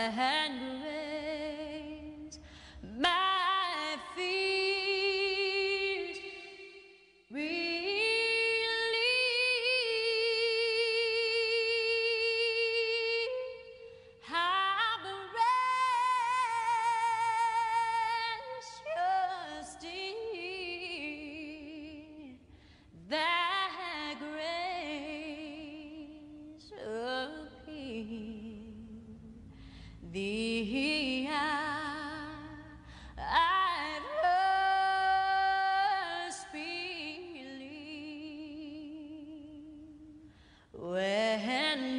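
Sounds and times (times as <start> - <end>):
woman singing slow song: 0.0 - 41.9.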